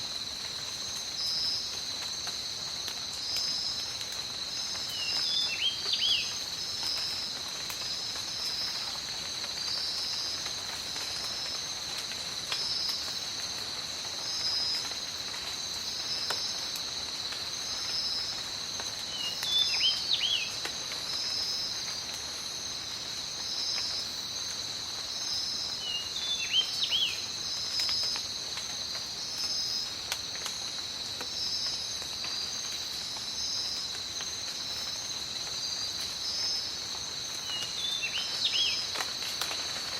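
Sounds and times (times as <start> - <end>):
high insect drone: 0.0 - 39.9
rain hissing with drips: 0.0 - 39.9
pulsing insect call: 0.1 - 11.7, 12.6 - 39.9.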